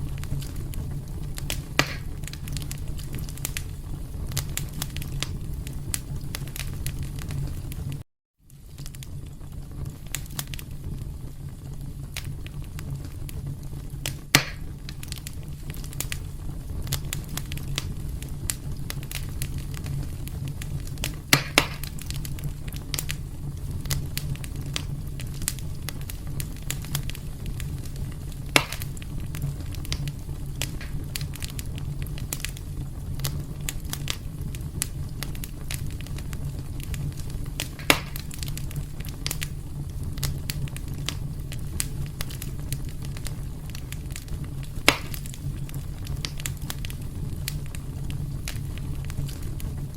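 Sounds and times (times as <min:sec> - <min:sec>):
fire crackling and snapping: 0:00.0 - 0:49.9
loud fire pops: 0:00.0 - 0:49.9
low rumble of flame: 0:00.0 - 0:49.9.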